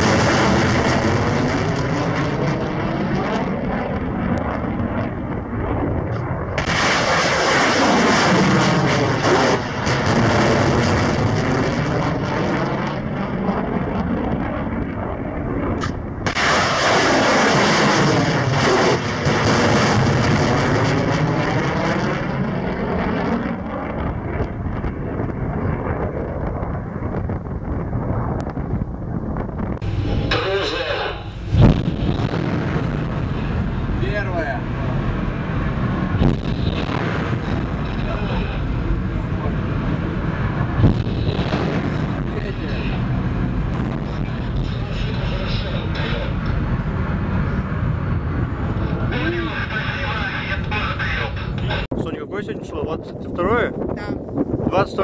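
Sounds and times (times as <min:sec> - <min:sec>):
rocket motors roaring: 0:00.0 - 0:55.0.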